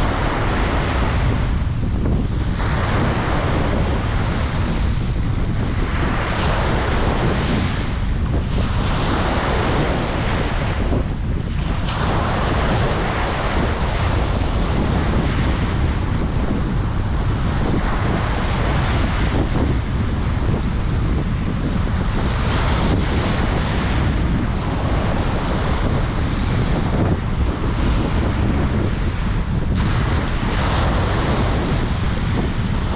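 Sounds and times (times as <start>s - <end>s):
ocean surf breaking on beach: 0.0s - 32.9s
wind rumble on microphone: 0.0s - 32.9s.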